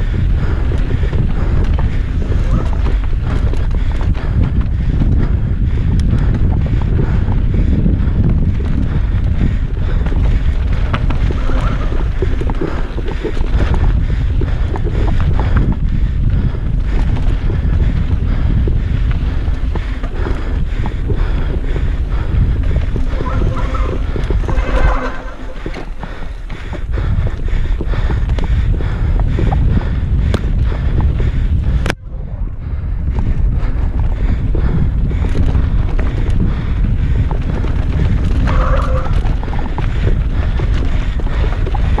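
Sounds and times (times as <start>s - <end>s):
bike rattling on rough dirt: 0.0s - 42.0s
wind buffeting microphone: 0.0s - 42.0s.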